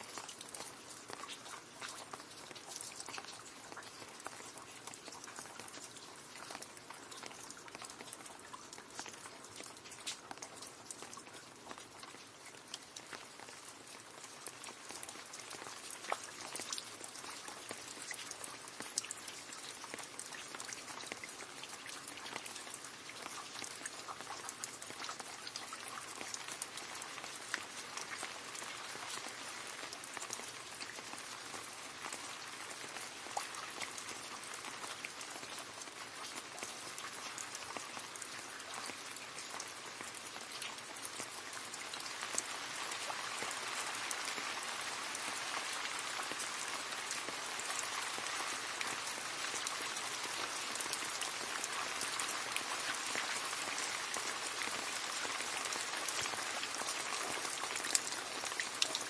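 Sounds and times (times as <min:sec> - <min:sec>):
rain falling into a puddle: 0:00.0 - 0:59.0.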